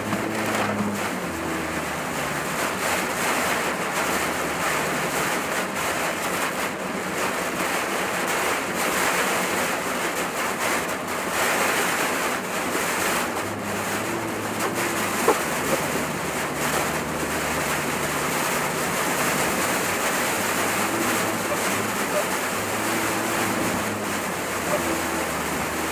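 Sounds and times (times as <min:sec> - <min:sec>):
faint engine hum: 0:00.0 - 0:06.5, 0:11.1 - 0:25.9
road and wind noise: 0:00.0 - 0:25.9.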